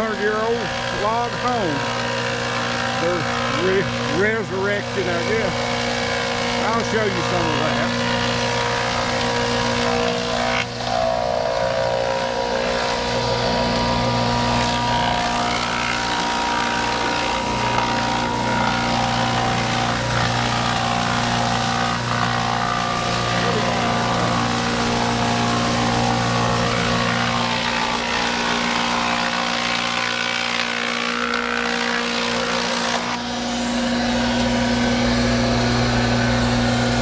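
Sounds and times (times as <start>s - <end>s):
lumber planer running: 0.0s - 37.0s.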